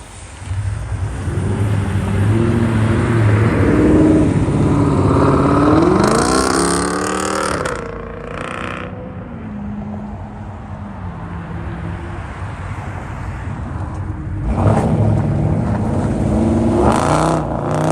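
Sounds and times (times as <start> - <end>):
car engine accelerating: 0.0 - 12.4, 13.7 - 17.9.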